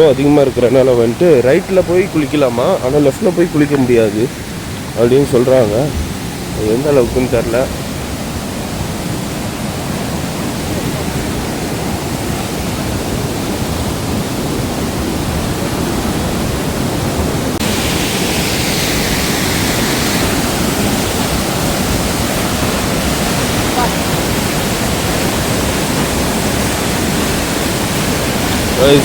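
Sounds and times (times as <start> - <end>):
waterfall rushing water: 0.0 - 29.0.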